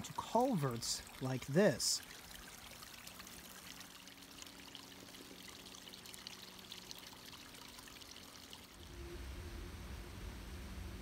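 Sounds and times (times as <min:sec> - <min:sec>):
trickle of running water: 0:00.0 - 0:09.0.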